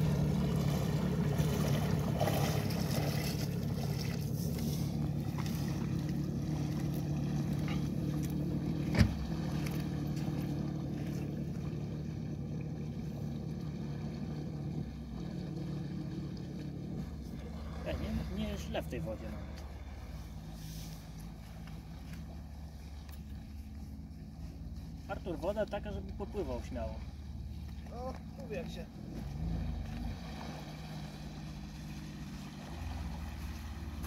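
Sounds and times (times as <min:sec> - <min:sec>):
jet ski engine running: 0:00.0 - 0:34.0.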